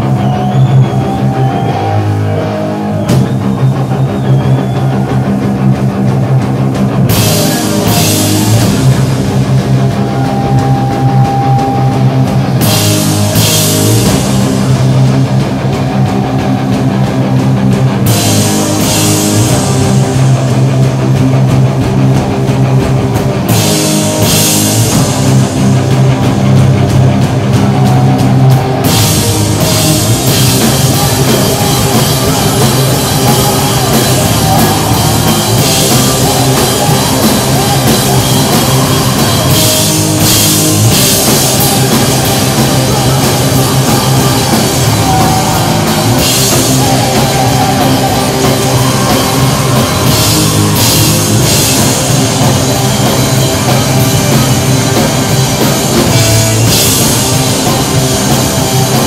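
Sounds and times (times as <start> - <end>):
loud live rock band: 0.0 - 59.0.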